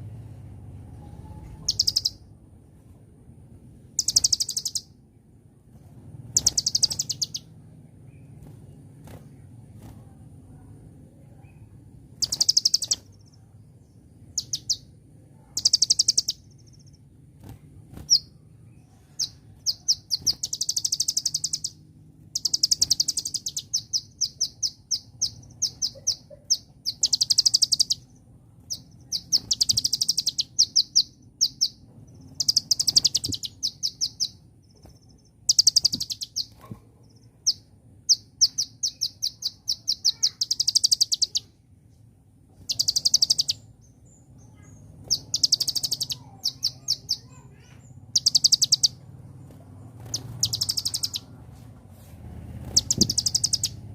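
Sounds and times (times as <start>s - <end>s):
bird chirping and trilling: 0.9s - 2.3s, 3.9s - 5.0s, 6.3s - 9.3s, 11.4s - 41.6s, 42.5s - 51.4s, 52.6s - 53.9s.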